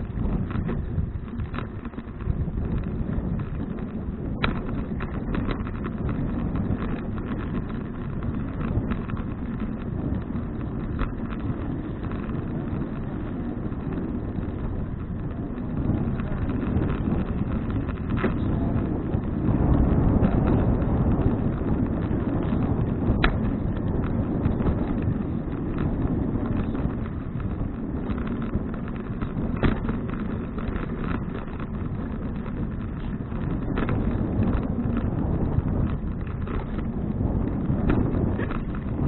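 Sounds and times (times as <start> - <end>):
bike clicks and rattles: 0.0 - 39.0
wind rumbling on microphone: 0.0 - 39.0.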